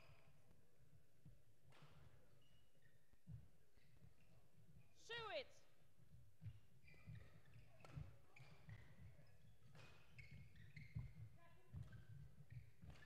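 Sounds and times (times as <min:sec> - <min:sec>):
shoes squeaking on court floor: 0:00.0 - 0:04.9, 0:06.4 - 0:13.0.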